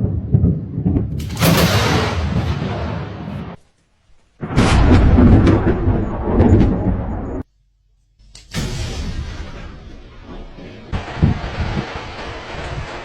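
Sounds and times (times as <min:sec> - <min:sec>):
thunderclaps rolling into rumbling: 0:00.0 - 0:03.6, 0:04.4 - 0:07.5, 0:08.6 - 0:13.0.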